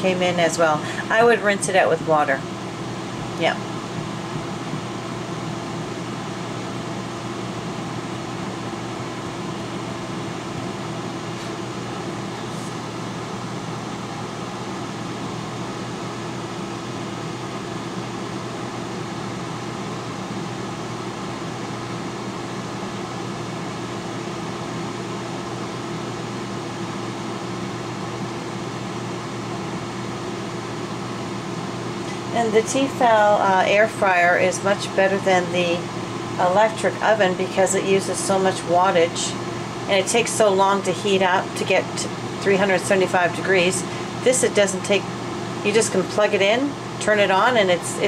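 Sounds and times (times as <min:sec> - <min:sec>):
air fryer fan whirring: 0:00.0 - 0:48.0.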